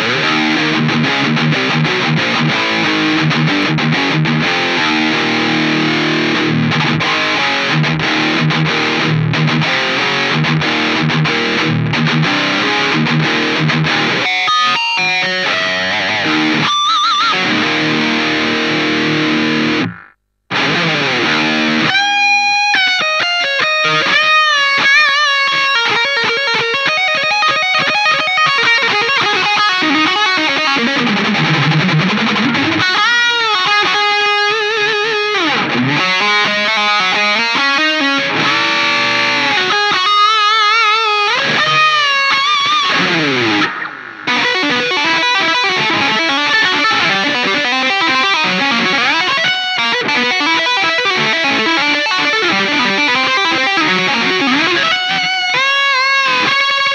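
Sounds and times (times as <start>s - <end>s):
distorted electric guitar lead: 0.0s - 56.9s.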